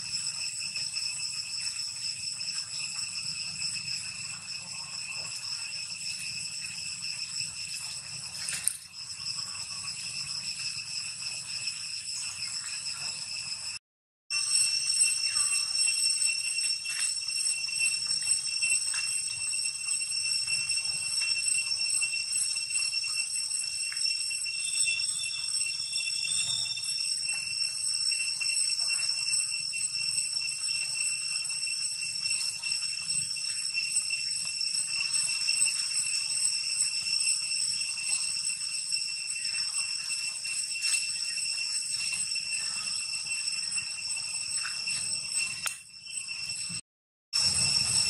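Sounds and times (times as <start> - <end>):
cicadas droning: 0.0 - 46.8, 47.4 - 48.0.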